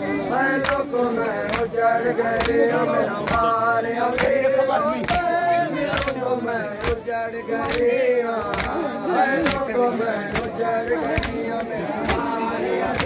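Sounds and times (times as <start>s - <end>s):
men chanting together: 0.0s - 13.0s
hands slapping chests: 0.6s - 4.4s, 5.0s - 7.0s, 7.6s - 13.0s.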